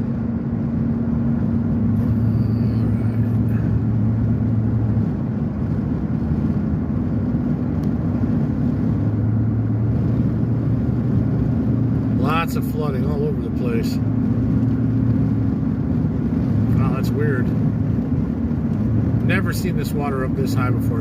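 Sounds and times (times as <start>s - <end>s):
continuous rushing noise: 0.0s - 21.0s
vehicle engine humming: 0.0s - 21.0s.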